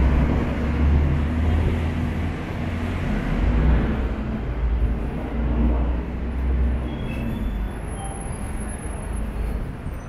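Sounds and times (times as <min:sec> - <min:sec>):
large vehicle rumbling by: 0:00.0 - 0:10.0
street traffic: 0:00.0 - 0:10.0.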